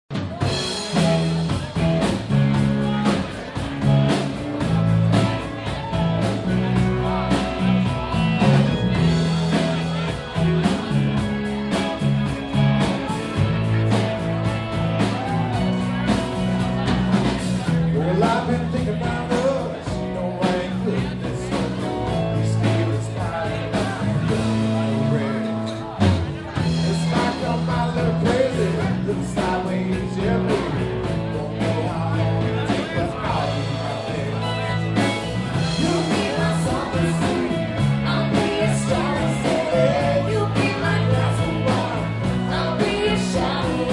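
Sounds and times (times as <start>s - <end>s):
bass line: 0.0s - 43.9s
guitar: 0.0s - 43.9s
steady drum beat: 0.1s - 43.9s.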